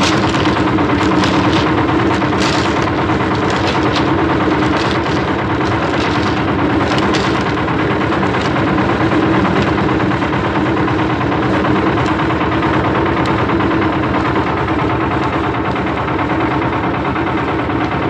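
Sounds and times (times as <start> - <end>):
cement mixer engine running: 0.0 - 18.0.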